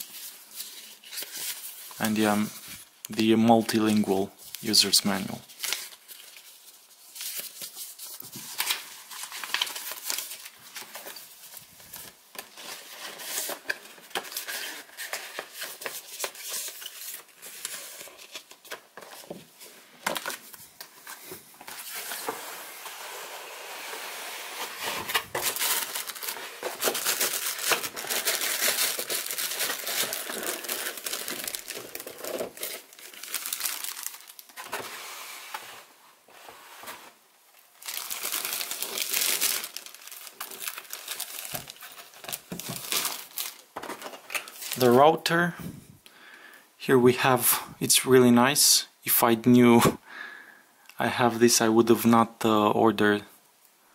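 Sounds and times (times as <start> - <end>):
paper packaging crinkling: 0.0 - 35.1, 36.8 - 45.5.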